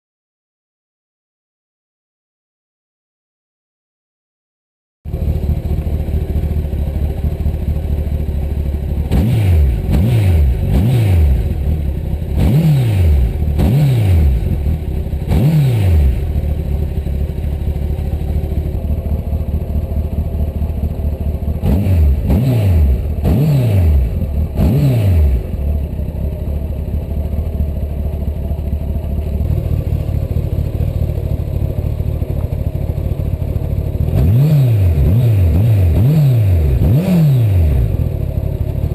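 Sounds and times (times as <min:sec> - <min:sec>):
motorcycle engine idling and revving: 0:05.1 - 0:38.9.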